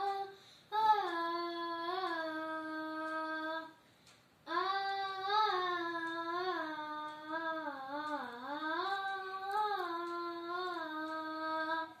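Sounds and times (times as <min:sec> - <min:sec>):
boy singing unaccompanied: 0:00.0 - 0:03.8, 0:04.4 - 0:12.0.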